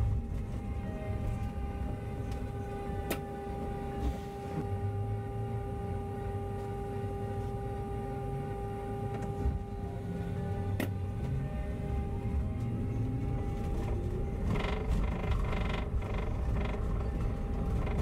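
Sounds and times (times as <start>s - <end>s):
bus idling rumble: 0.0s - 8.8s, 9.4s - 18.0s
constant hum: 0.0s - 18.0s.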